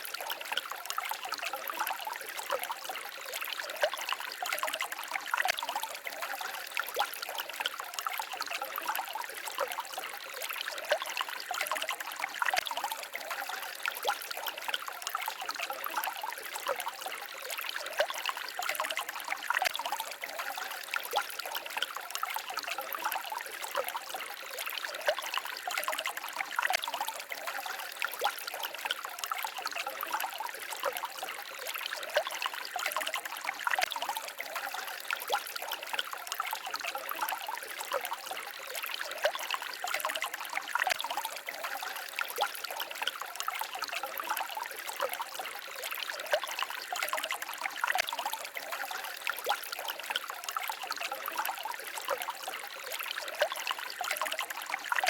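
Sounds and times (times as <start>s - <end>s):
shallow stream babbling: 0.0s - 55.0s.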